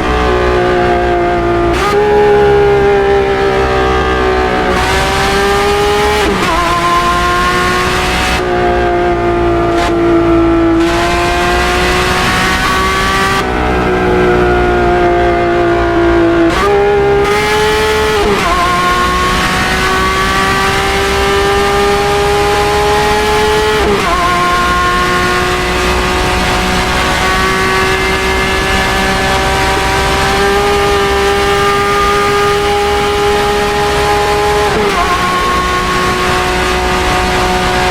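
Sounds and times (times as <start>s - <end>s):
car engine at steady revs: 0.0s - 37.9s.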